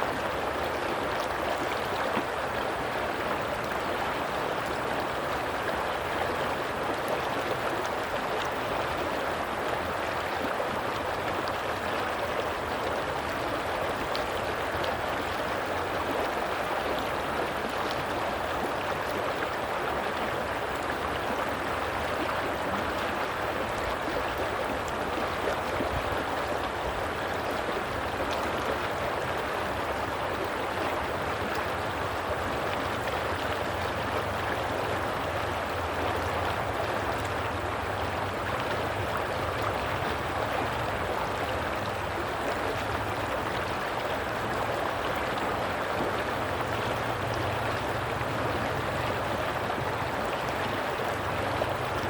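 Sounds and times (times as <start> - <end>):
stream of water gurgling: 0.0 - 52.0.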